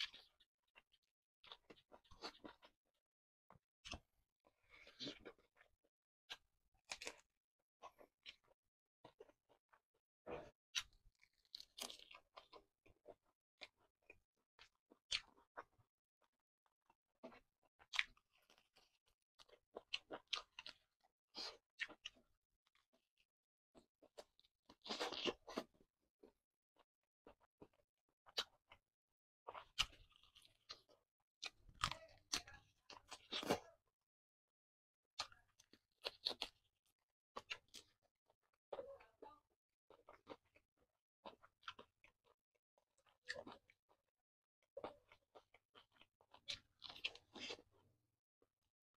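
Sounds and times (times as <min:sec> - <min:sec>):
chewing crunchy fried chicken: 0:00.0 - 0:34.0, 0:35.2 - 0:48.7.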